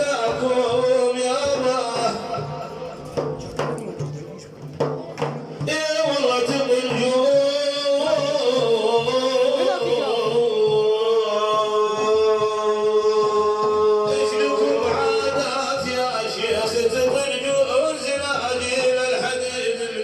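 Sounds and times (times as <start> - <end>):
man singing religious chant: 0.0 - 3.7, 5.6 - 20.0.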